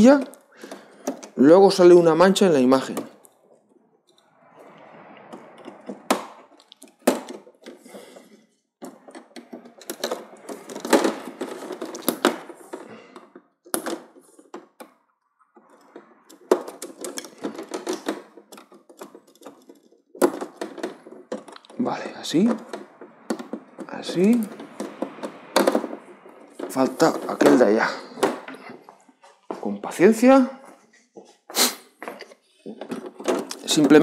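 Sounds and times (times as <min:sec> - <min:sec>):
plastic rustling and scraping: 0:00.0 - 0:34.0.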